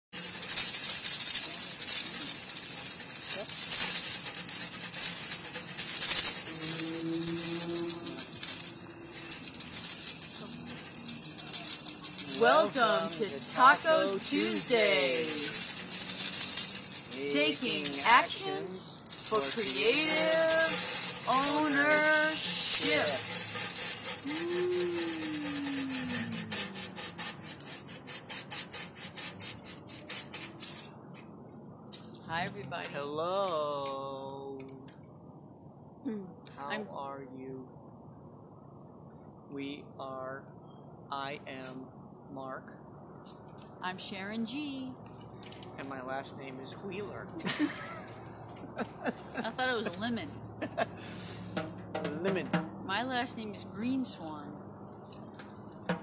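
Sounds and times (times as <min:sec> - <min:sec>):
tambourine jingling: 0:00.1 - 0:43.9, 0:44.6 - 0:56.0.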